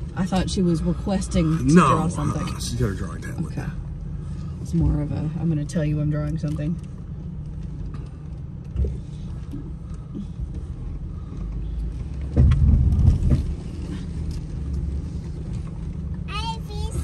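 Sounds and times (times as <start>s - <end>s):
off-road vehicle driving slowly: 0.0s - 17.0s.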